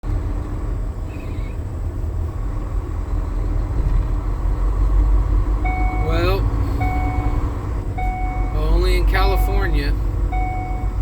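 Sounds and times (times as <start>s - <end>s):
car driving on freeway: 0.0s - 11.0s.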